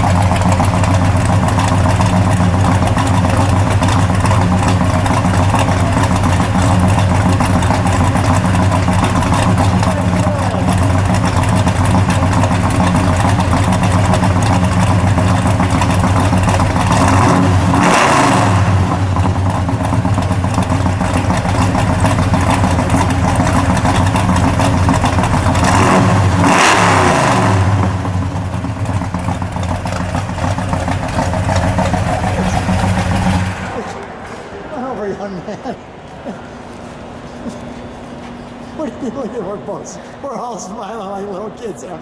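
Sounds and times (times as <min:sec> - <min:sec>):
car engine idling and revving: 0:00.0 - 0:34.7.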